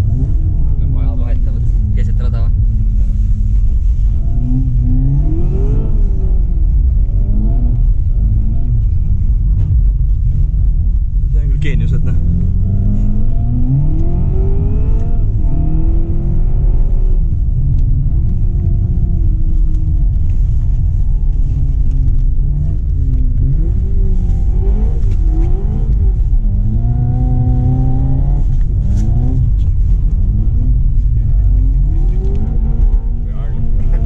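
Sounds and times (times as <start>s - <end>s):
car engine revving under load: 0.0s - 34.0s.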